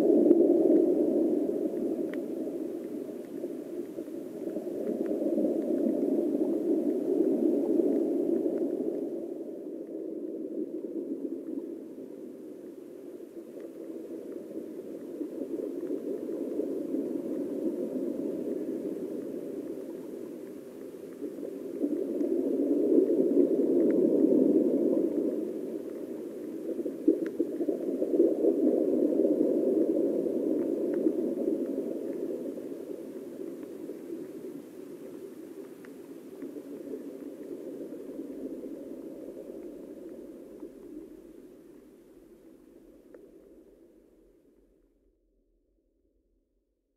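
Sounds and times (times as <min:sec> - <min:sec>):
muffled underwater rushing hiss: 0:00.0 - 0:44.0
faint ticks: 0:00.1 - 0:43.9.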